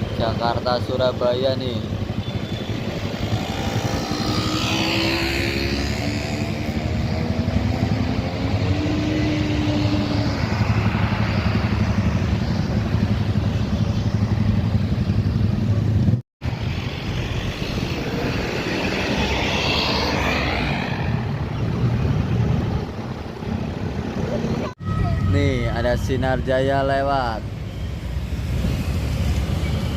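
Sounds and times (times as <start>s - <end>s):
road traffic driving past: 0.0s - 29.9s.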